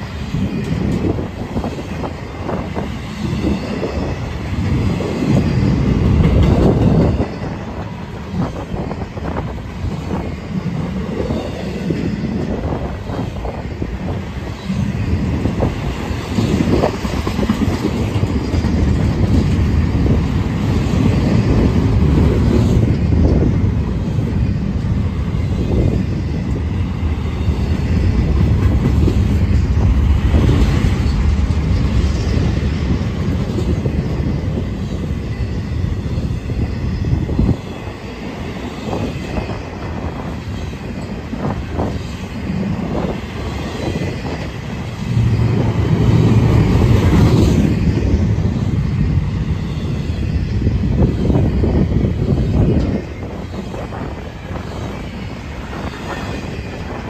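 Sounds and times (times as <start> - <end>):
train cars knocking and clanking: 0.0 - 11.4, 12.0 - 57.0
train wheels rumbling on rail: 0.0 - 57.0.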